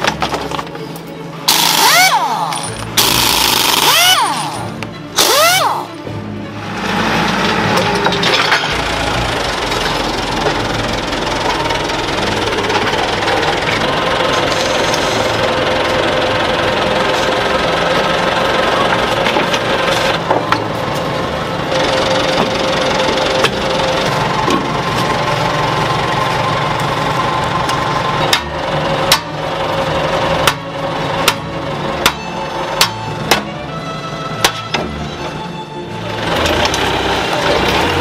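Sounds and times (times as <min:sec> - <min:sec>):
forklift engine running: 0:00.0 - 0:38.0.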